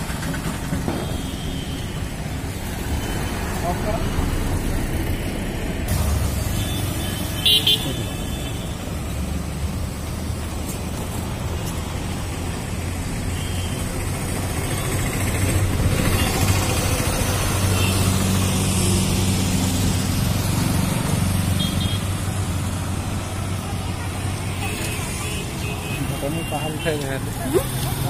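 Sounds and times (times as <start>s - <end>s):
car and motorcycle engines: 2.0s - 28.0s.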